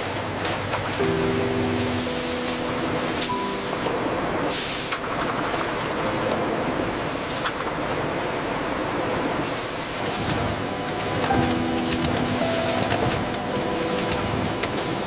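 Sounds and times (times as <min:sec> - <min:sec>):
production line machinery: 0:00.0 - 0:15.0.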